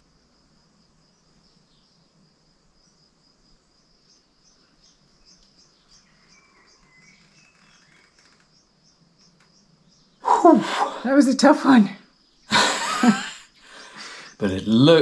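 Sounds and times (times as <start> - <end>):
high-pitched insect chirping: 0.0 - 15.0.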